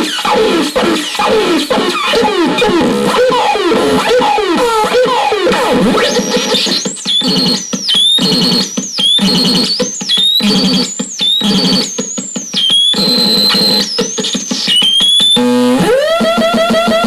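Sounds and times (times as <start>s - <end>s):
swooping high whistling synth tones: 3.2s - 17.0s.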